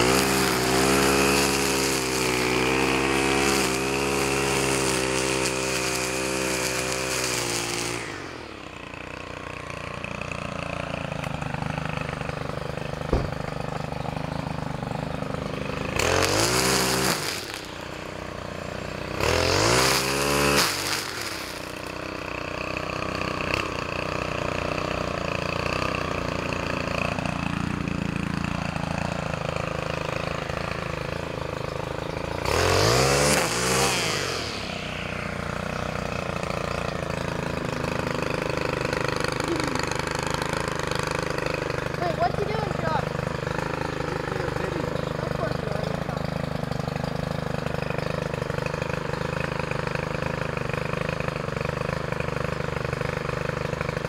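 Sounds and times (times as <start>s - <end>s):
string trimmer engine revving: 0.0s - 54.0s.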